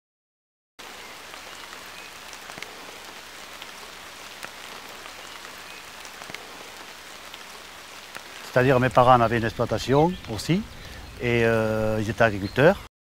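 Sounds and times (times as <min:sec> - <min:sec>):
light rain hiss: 0:00.8 - 0:12.9
raindrops ticking on leaves: 0:00.8 - 0:12.9.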